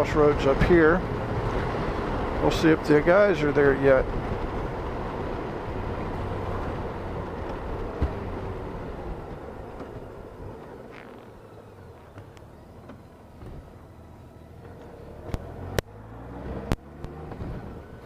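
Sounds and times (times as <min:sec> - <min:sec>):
low motorcycle engine hum: 0:00.0 - 0:18.0.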